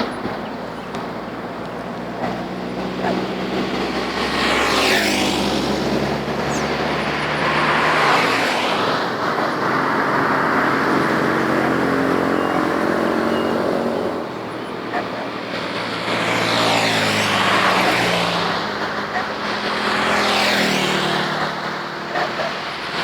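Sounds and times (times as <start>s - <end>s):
steady engine hum: 0.0s - 23.0s
vehicles driving past: 0.0s - 23.0s.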